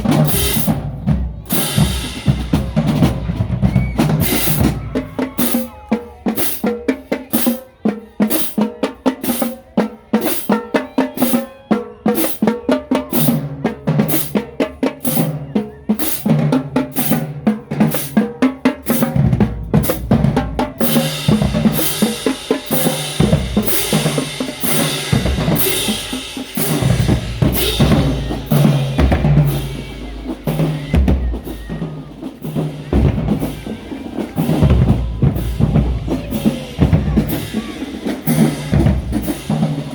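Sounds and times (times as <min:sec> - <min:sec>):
snare drum strokes and rimshots: 0:00.0 - 0:39.9.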